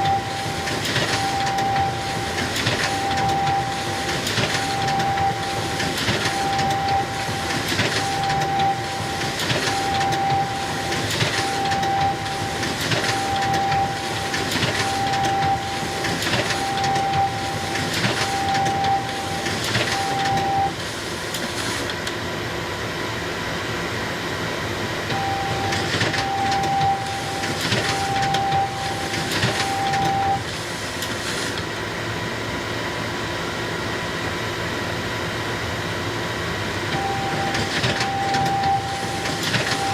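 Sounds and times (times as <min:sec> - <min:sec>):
photocopier cycling: 0:00.0 - 0:22.3, 0:25.0 - 0:31.8, 0:36.7 - 0:39.9
photocopier running hum: 0:00.0 - 0:39.9.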